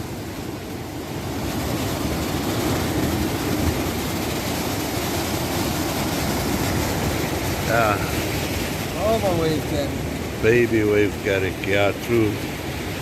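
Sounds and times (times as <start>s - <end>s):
surf: 0.0s - 13.0s
wind: 0.0s - 13.0s.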